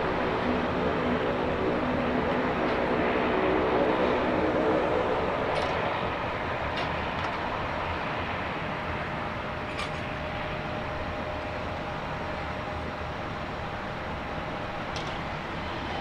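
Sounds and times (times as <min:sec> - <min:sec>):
turboprop propellers droning: 0:00.0 - 0:16.0.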